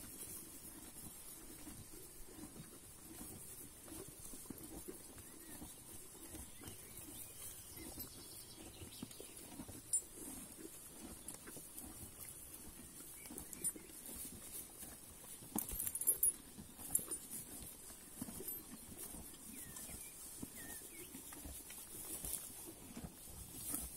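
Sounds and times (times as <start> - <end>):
mule munching hay: 0.0 - 23.9.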